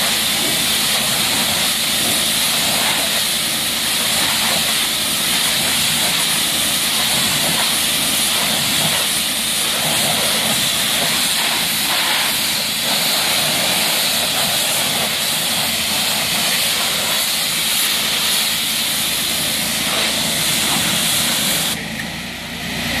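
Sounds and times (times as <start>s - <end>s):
pressure washer spraying a car: 0.0s - 23.0s.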